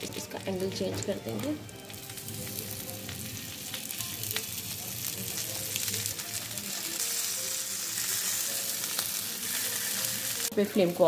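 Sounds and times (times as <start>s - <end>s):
chicken sizzling on grill pan: 0.0s - 11.0s.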